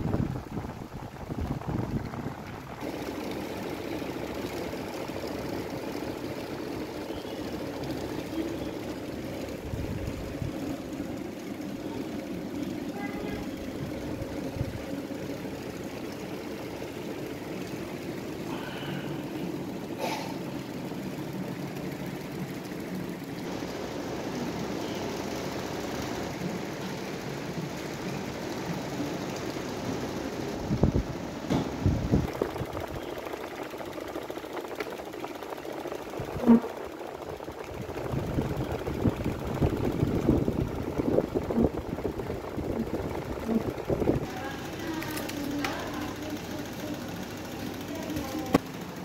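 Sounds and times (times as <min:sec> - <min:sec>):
electric fans whirring: 0:00.0 - 0:49.0.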